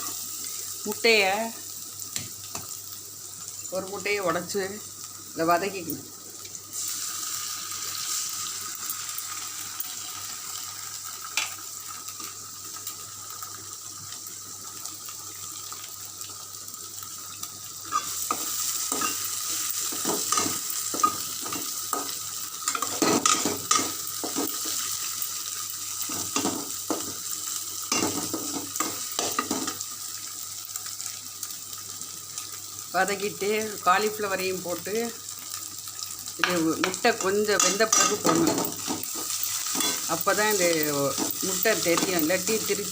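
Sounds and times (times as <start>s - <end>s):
egg sizzling in a frying pan: 0.0s - 42.9s.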